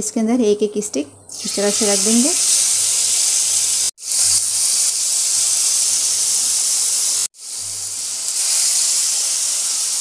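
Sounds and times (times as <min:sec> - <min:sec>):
skewers sizzling in hot oil: 0:01.3 - 0:10.0.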